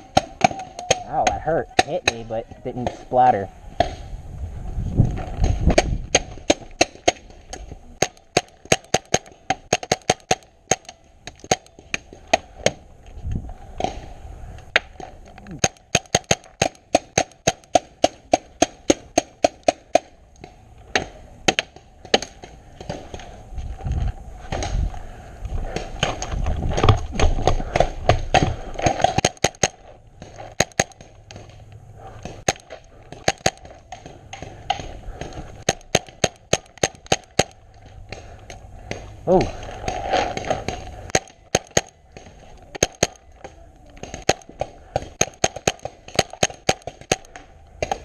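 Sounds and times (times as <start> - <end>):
paintball markers firing: 5.2 - 12.8, 14.7 - 23.3, 25.7 - 48.0.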